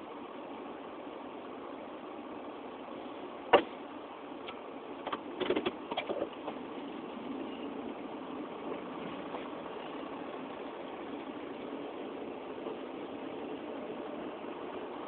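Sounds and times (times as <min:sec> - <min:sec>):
steady engine hum: 0:00.0 - 0:15.0.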